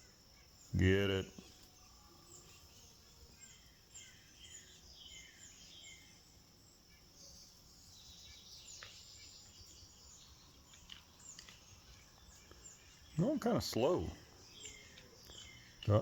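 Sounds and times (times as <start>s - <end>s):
low background noise: 0.0s - 16.0s
small birds chirping: 0.0s - 16.0s.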